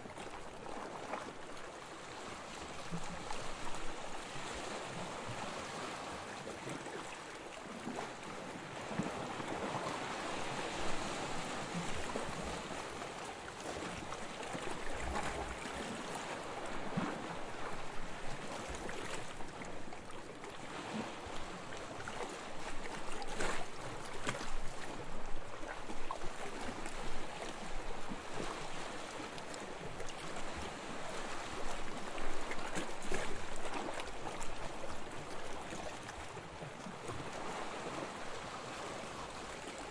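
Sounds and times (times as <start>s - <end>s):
gentle waves washing onto beach: 0.0s - 39.9s.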